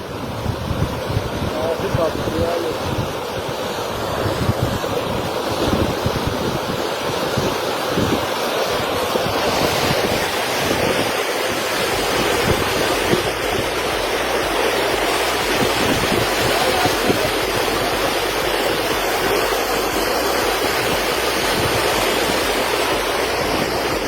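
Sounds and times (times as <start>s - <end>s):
water rushing: 0.0s - 24.0s
wind buffeting microphone: 0.0s - 24.0s.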